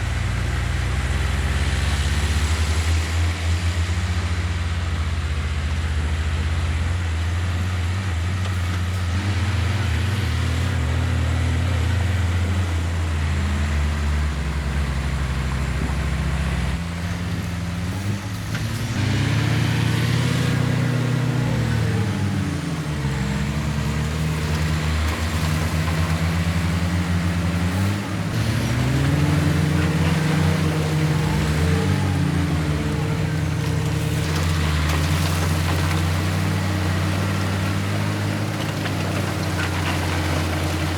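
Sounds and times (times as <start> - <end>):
heavy diesel engine revving: 0.0 - 40.9.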